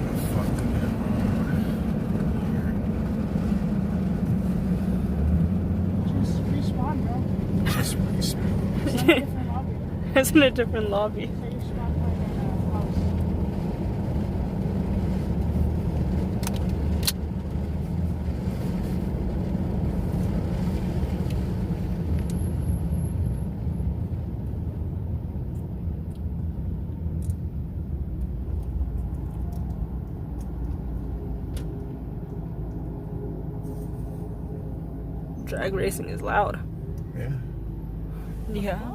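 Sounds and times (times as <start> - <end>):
engine and road rumble: 0.0 - 38.9.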